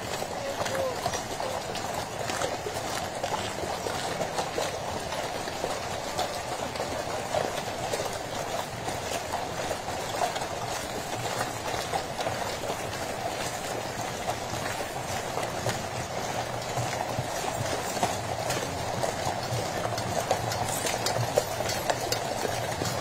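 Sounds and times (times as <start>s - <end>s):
coach wheels rumbling on road: 0.0s - 23.0s
horse hooves clopping: 0.0s - 23.0s.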